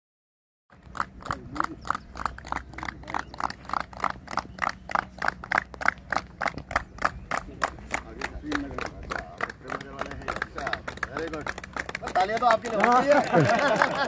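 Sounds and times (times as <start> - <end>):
people clapping in rhythm: 0.7 - 14.0.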